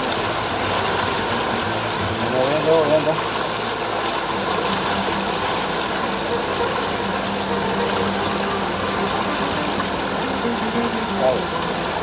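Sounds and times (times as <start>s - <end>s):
motorboat engine humming: 0.0s - 12.0s
water rushing past hull: 0.0s - 12.0s.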